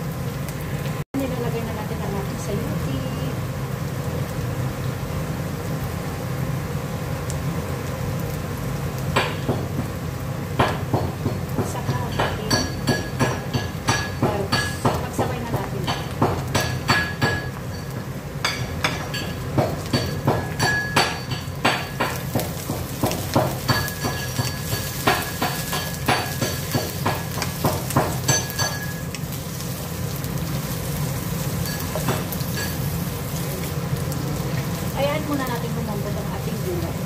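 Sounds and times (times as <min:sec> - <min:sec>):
vegetables sizzling in a wok: 0:00.0 - 0:37.0.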